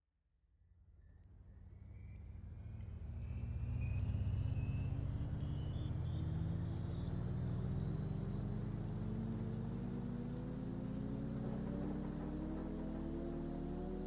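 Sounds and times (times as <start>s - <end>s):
low synth drone rising: 1.2s - 14.0s
high tone gliding upward: 1.8s - 14.0s.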